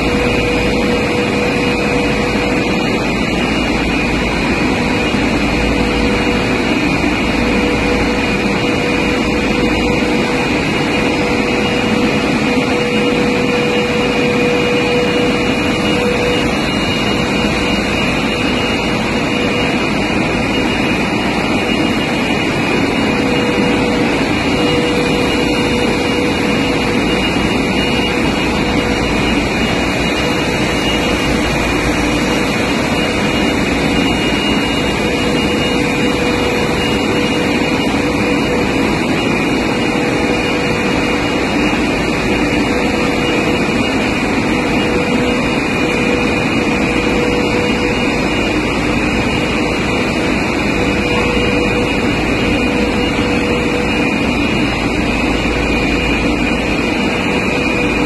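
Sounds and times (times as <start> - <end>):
coating machine running: 0.0 - 58.0
high machine whine: 0.0 - 58.0.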